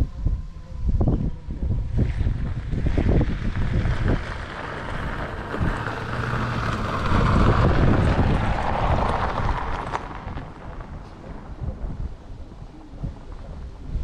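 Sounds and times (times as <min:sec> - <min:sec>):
wind buffeting microphone: 0:00.0 - 0:14.0
passing train rumble: 0:01.3 - 0:14.0.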